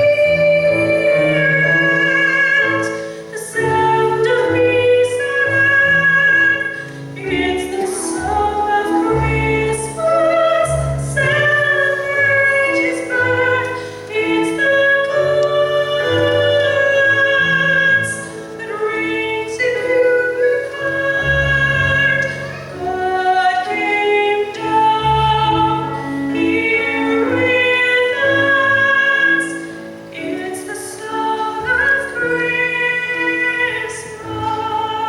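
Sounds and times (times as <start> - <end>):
woman singing classical solo: 0.0 - 35.0.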